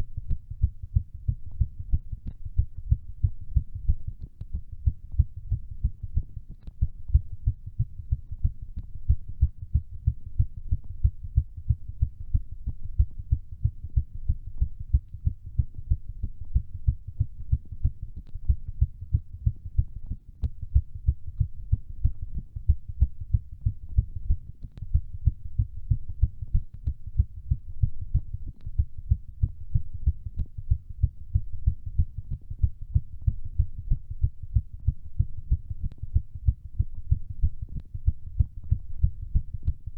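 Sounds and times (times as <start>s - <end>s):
fast heartbeat thuds: 0.0s - 39.9s.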